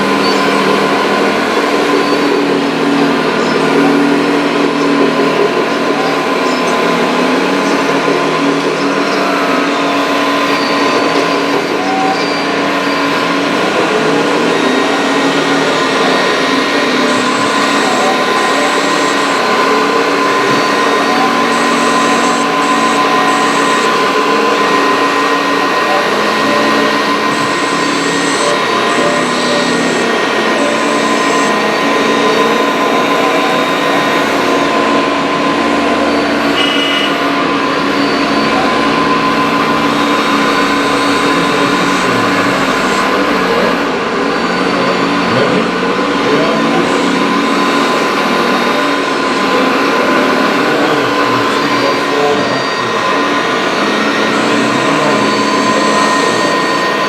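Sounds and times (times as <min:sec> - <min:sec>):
electric hydraulic pumps whining: 0:00.0 - 0:57.0.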